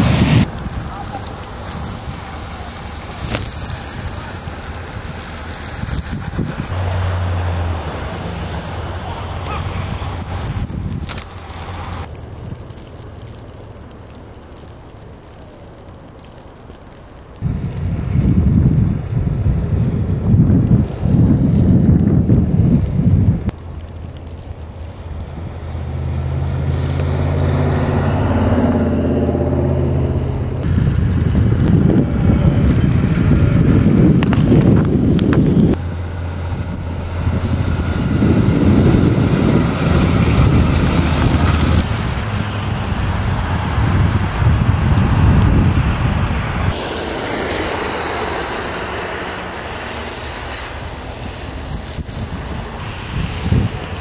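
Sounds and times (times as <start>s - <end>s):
engine hum: 0.0s - 54.0s
vehicles passing through slush: 0.0s - 54.0s.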